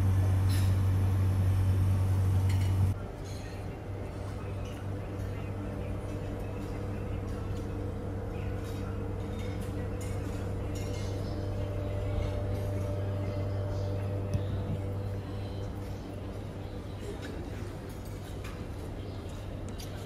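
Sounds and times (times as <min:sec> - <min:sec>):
low hum of ventilation: 0:00.0 - 0:20.0.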